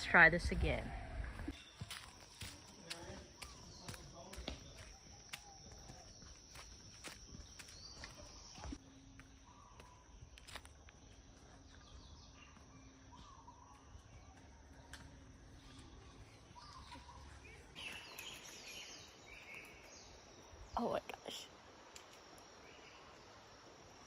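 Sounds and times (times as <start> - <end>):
birds chirping: 0.0 - 23.4.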